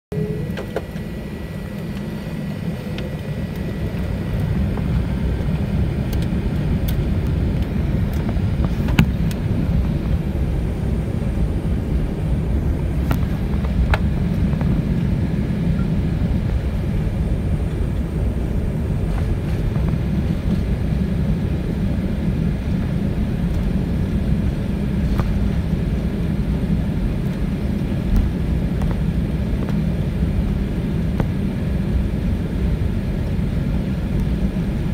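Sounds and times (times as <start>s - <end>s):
airliner cabin engine rumble: 0.1s - 34.9s.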